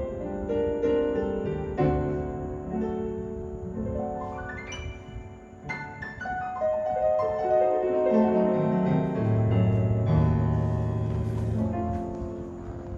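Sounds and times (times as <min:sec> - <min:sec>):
piano music through speakers: 0:00.0 - 0:12.9.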